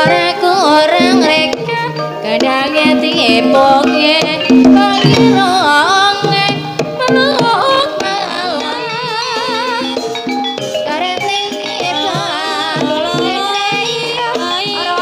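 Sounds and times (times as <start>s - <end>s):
hand drums: 0.0s - 15.0s.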